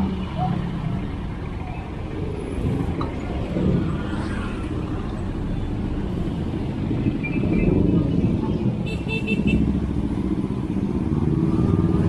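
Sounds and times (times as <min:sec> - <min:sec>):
car and motorcycle engines: 0:00.0 - 0:12.0.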